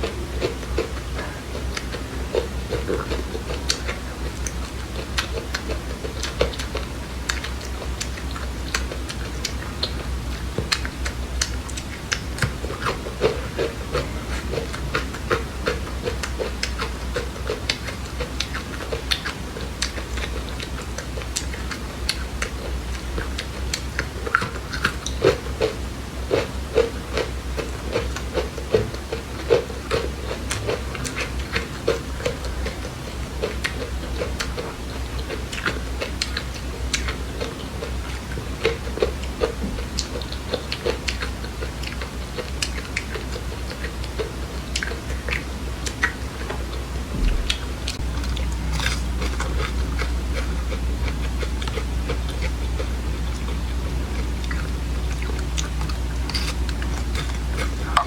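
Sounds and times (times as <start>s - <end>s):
person chewing dry seeds: 0.0s - 58.0s.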